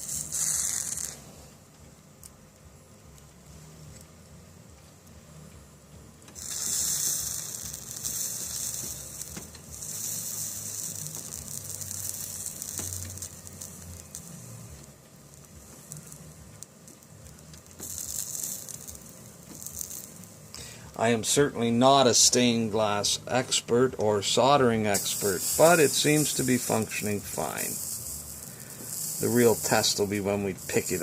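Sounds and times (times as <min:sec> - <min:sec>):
flux sizzling under soldering iron: 0:00.0 - 0:31.0.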